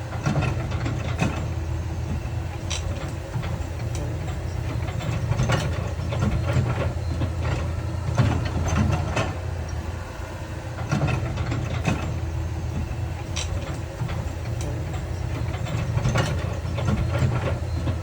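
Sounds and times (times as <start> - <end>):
diesel machinery running: 0.0 - 18.0.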